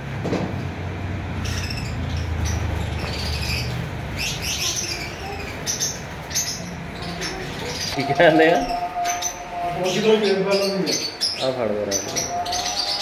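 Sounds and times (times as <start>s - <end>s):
birds chirping and squeaking: 1.2s - 13.0s.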